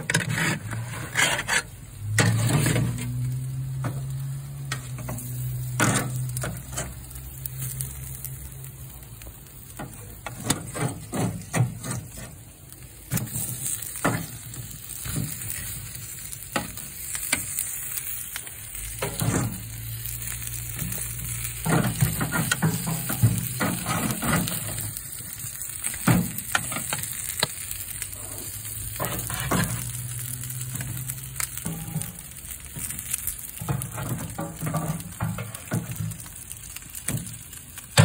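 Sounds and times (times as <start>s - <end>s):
meat sizzling on a grill: 0.0s - 38.0s.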